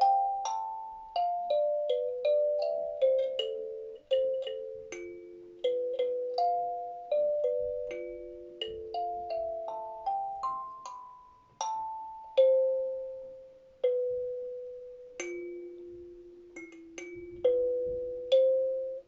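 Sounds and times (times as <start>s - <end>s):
kalimba melody: 0.0s - 19.0s.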